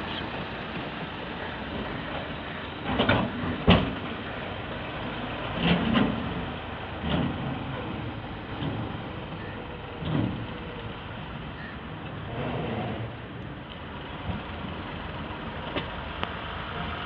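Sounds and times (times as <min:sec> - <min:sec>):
diesel tractor running: 0:00.0 - 0:17.0.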